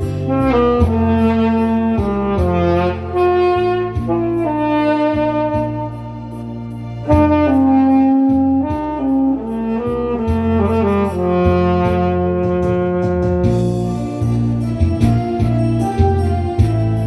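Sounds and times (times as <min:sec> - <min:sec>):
backing track with bass: 0:00.0 - 0:17.0
tenor saxophone ballad melody: 0:00.0 - 0:17.0.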